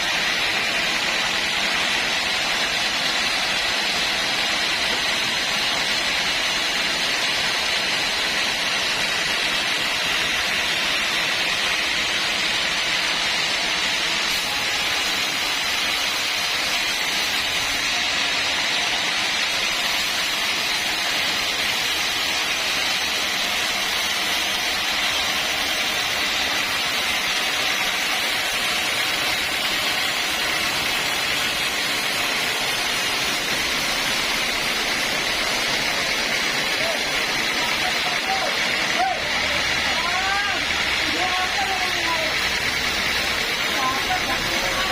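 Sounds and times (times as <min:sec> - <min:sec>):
saw cutting through log: 0:00.0 - 0:44.9.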